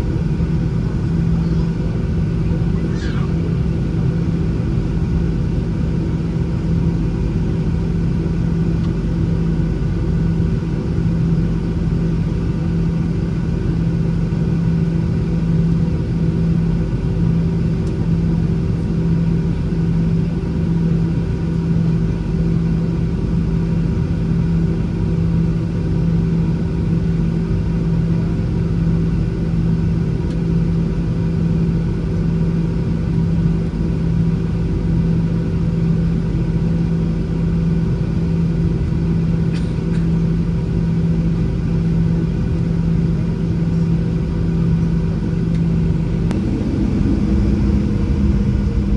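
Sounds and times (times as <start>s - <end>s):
jet engines idling in cabin: 0.0s - 48.9s.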